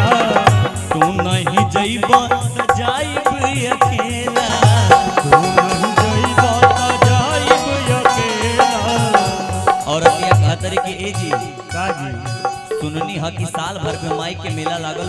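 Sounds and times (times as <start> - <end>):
hand drum beat: 0.0 - 15.0
wavering melodic lead line: 0.0 - 15.0.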